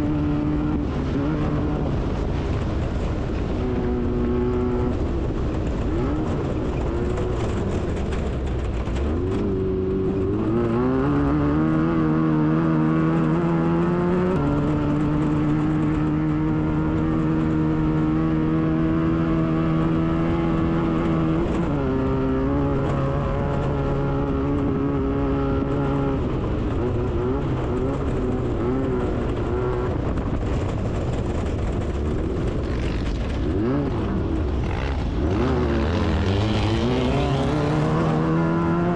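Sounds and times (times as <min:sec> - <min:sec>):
buggy engine running hard: 0:00.0 - 0:38.9.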